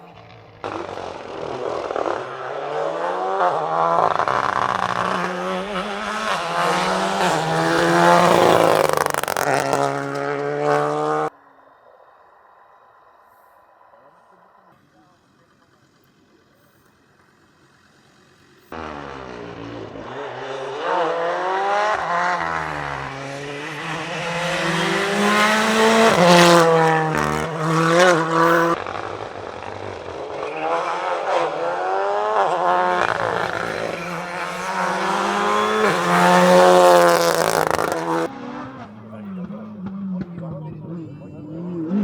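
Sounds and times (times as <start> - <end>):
rally car engine revving: 0.0 - 11.3, 18.7 - 42.0.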